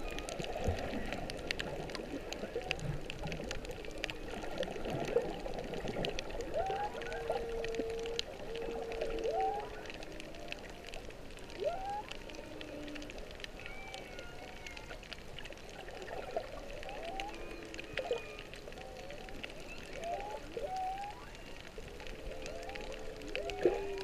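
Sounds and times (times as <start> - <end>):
faint crackling clicks: 0.0 - 24.0
humpback whale song: 0.0 - 24.0.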